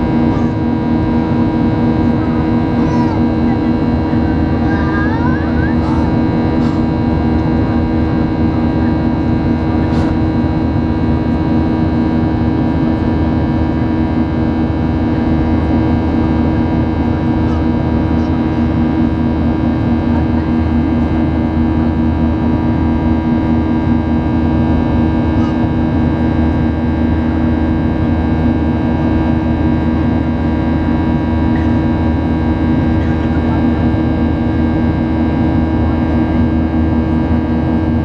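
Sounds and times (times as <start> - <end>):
airplane cabin engine drone: 0.0 - 38.0.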